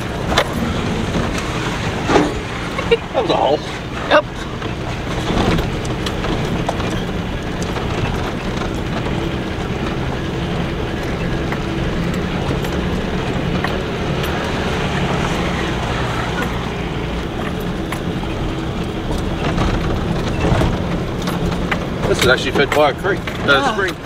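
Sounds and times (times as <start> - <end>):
knocks and rattles: 0.0 - 24.0
truck engine running: 0.0 - 24.0.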